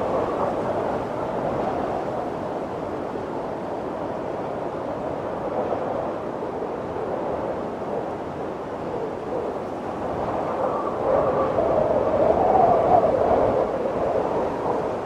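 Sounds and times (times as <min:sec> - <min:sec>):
snowstorm wind blowing: 0:00.0 - 0:15.0.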